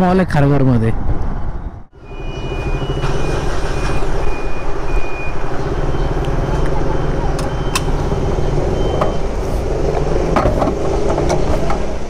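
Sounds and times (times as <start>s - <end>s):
road and traffic rumble: 0.0s - 12.0s.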